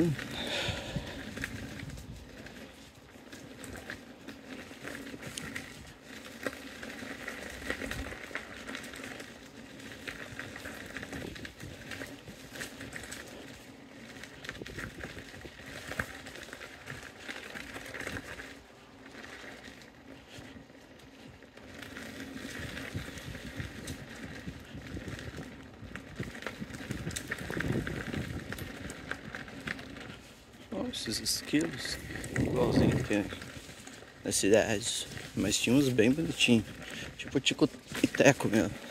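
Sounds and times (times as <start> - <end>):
tyre crunching over gravel: 0.0 - 38.9.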